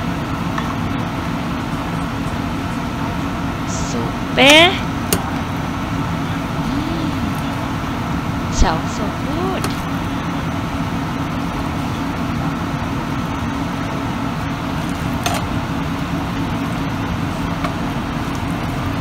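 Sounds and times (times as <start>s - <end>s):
appliance fan humming: 0.0s - 19.0s.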